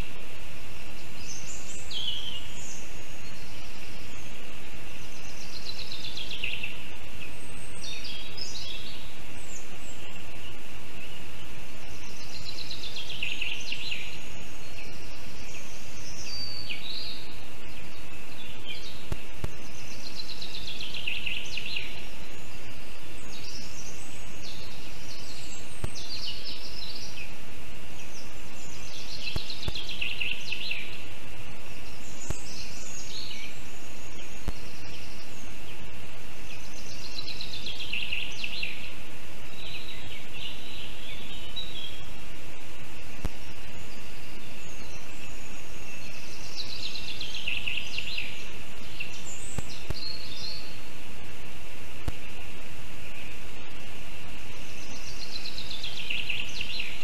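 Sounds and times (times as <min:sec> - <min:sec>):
songbird trilling song: 0:00.0 - 0:57.0
steady hiss: 0:00.0 - 0:57.0.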